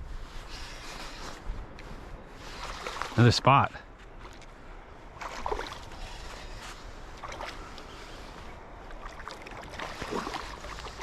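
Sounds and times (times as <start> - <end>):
river water trickling: 0.8 - 11.0.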